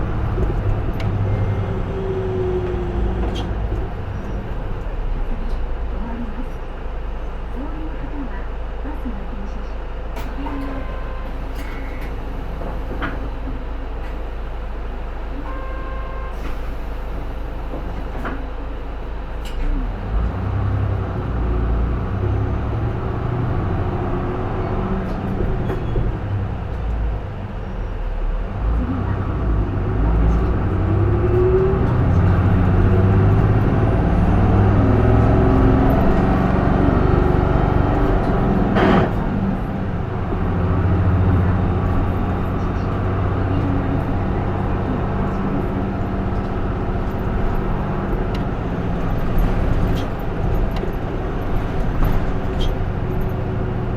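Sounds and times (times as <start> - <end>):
diesel bus engine: 0.0 - 53.9.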